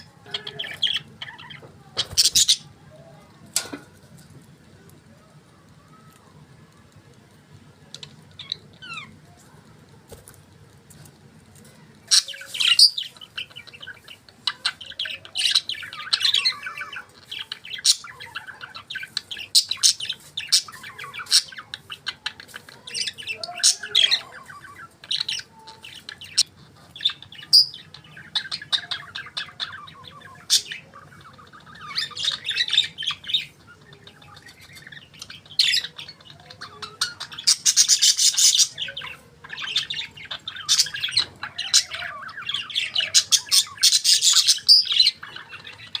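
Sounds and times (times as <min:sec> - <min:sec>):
budgerigars chirping and warbling: 0:00.0 - 0:03.8, 0:07.8 - 0:09.4, 0:11.6 - 0:46.0.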